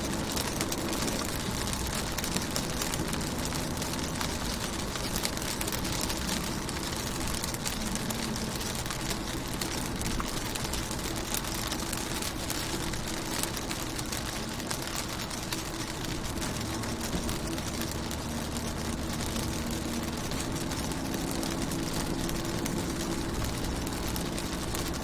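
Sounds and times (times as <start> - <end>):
rain ticking on car: 0.0 - 25.0.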